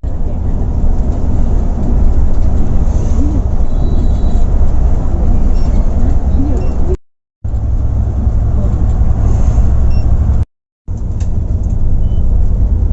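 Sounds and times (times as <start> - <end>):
diesel engine rumble: 0.0 - 12.9
road noise: 0.0 - 12.9.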